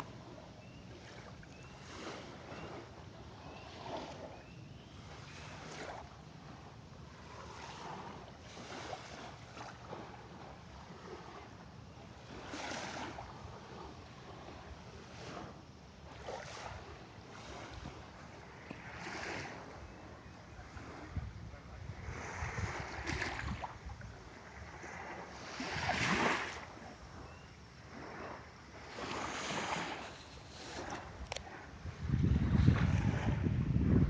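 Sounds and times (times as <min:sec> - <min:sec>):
sea waves washing in: 0:00.0 - 0:34.0
wind rumbling on microphone: 0:00.0 - 0:34.0.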